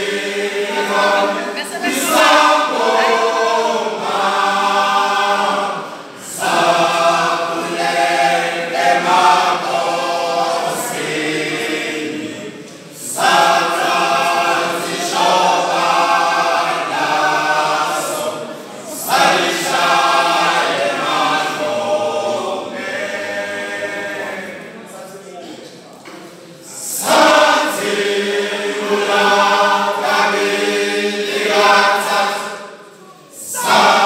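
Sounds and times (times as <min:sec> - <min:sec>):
male choir singing in harmony: 0:00.0 - 0:25.1, 0:26.6 - 0:34.0.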